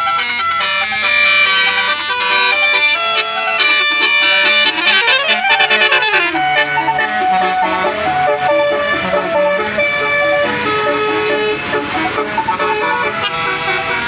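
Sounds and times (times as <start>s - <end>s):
tuned air horns playing a tune: 0.0s - 14.0s.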